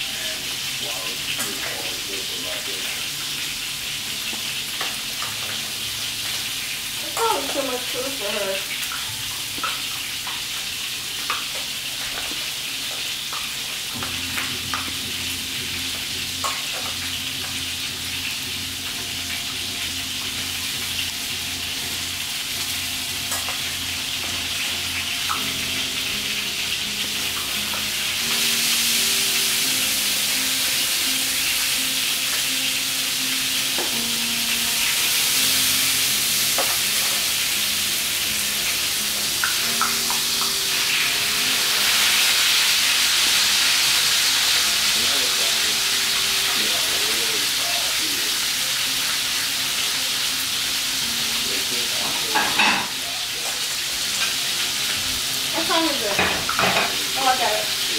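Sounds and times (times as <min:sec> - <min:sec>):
steady hiss: 0:00.0 - 0:56.1.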